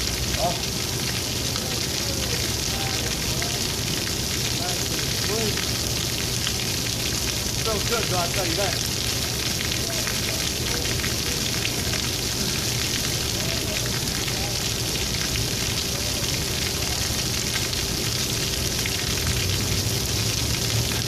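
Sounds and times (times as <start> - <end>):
shower running: 0.0 - 21.0.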